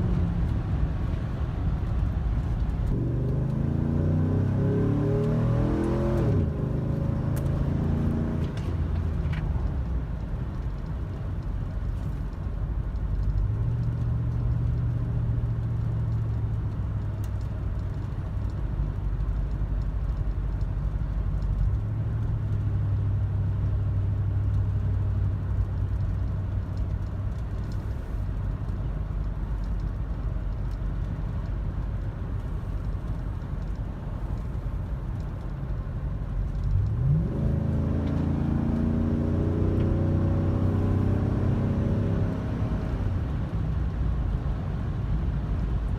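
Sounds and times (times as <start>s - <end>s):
car engine droning: 0.0s - 45.9s.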